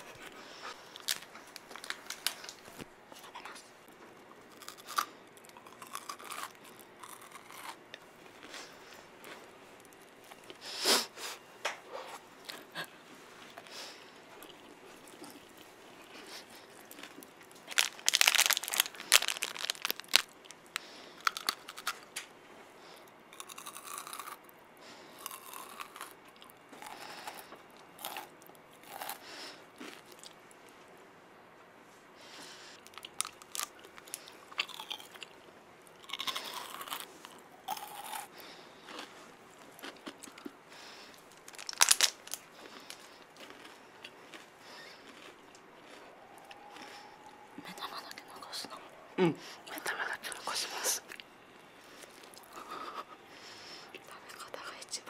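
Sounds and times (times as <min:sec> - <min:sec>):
crunchy chewing of sweet: 0:00.0 - 0:11.4, 0:12.0 - 0:30.6, 0:32.2 - 0:55.0.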